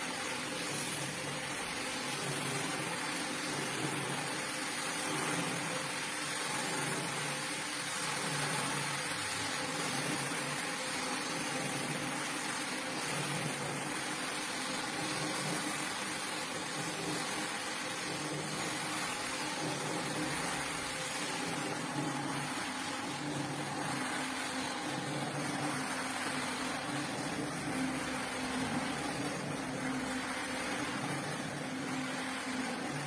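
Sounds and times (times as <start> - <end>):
cleaning machine motor hum: 0.0 - 33.0.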